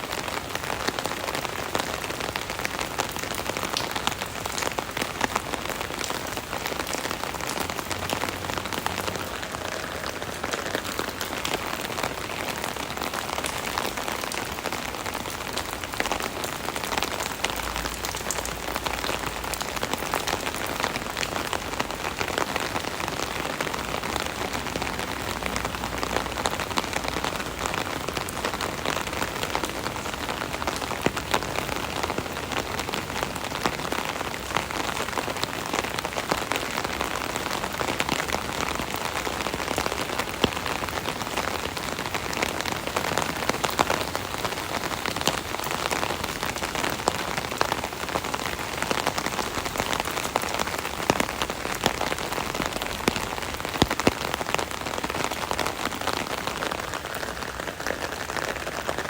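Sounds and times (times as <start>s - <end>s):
rain pattering on an umbrella: 0.0s - 59.0s.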